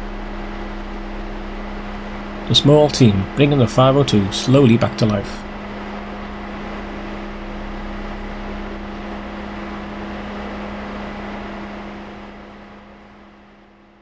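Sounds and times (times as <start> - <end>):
rushing noise: 0.0 - 12.2
steady mechanical hum: 0.0 - 14.0.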